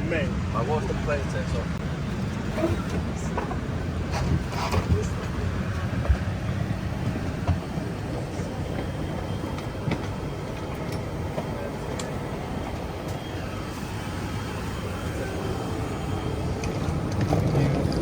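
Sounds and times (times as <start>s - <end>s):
vehicle rumbling in motion: 0.0s - 18.0s.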